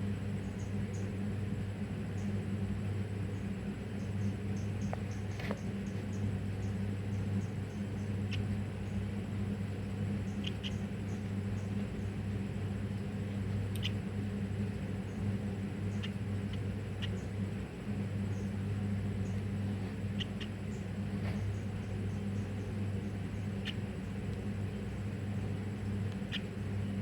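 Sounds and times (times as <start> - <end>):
low electrical hum: 0.0 - 27.0
bird chicks peeping: 0.3 - 1.2, 3.3 - 27.0.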